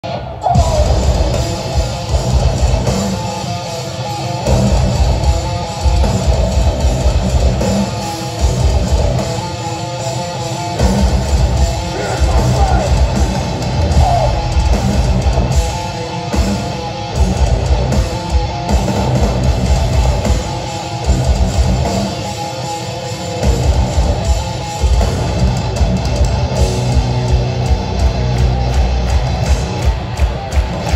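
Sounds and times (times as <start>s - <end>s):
metal band playing live: 0.0s - 30.9s.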